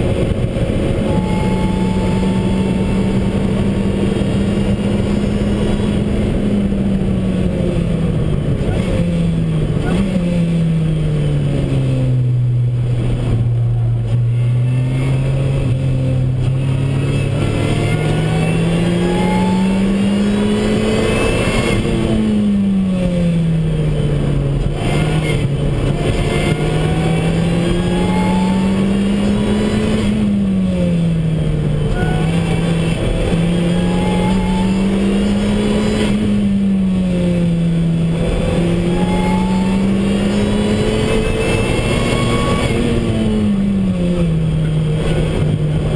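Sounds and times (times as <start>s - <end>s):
car engine at racing speed: 0.0s - 45.9s.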